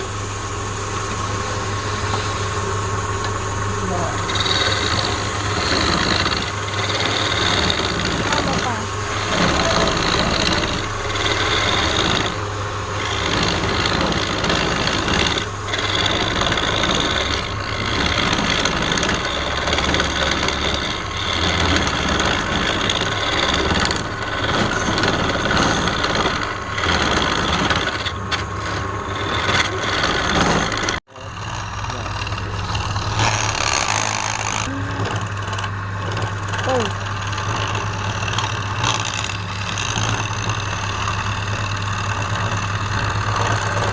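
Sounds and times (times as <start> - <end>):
lathe motor humming: 0.0 - 43.9
tool scraping spinning wood: 0.0 - 43.9.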